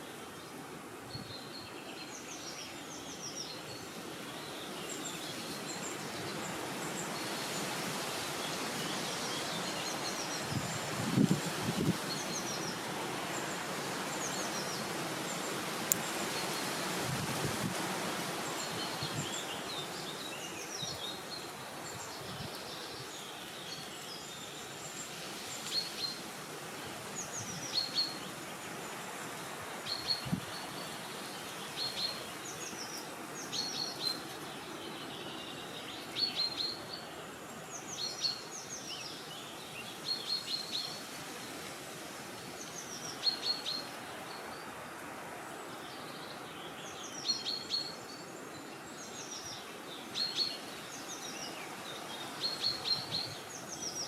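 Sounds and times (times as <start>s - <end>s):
small birds chirping: 0.0s - 41.7s, 42.3s - 54.0s.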